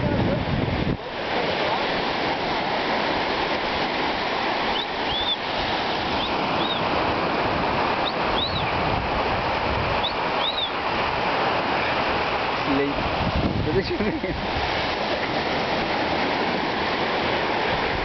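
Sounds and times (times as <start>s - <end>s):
surf washing over rocks: 0.0s - 18.0s.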